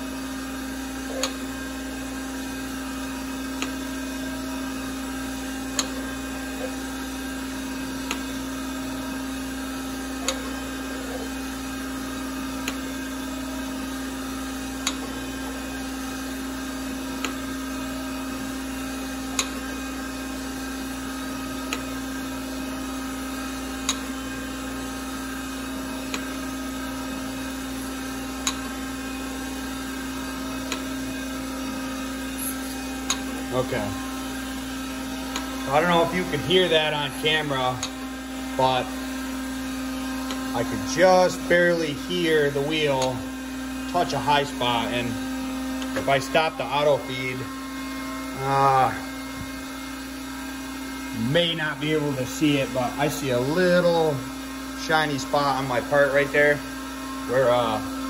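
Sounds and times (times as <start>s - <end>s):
grinder spindle hum: 0.0s - 58.0s.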